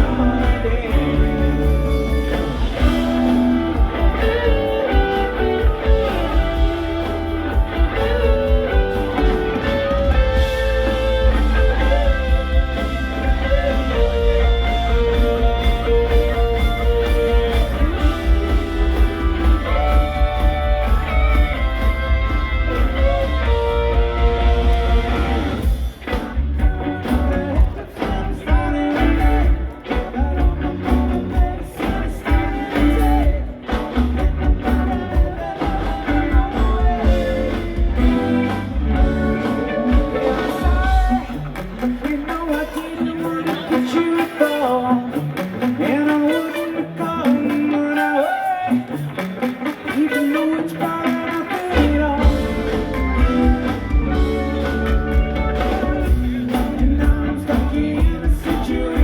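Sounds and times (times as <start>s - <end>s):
bass guitar: 0.0s - 59.0s
drums: 0.0s - 59.0s
electric guitar: 0.0s - 59.0s.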